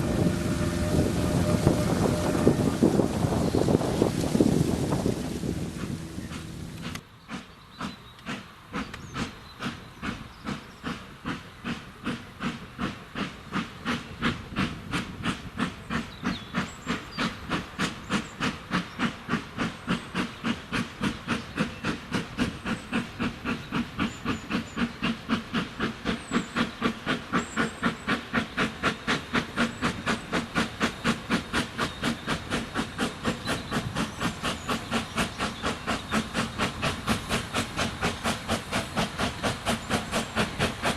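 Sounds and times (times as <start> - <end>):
steam locomotive chuffing: 0.0 - 40.9.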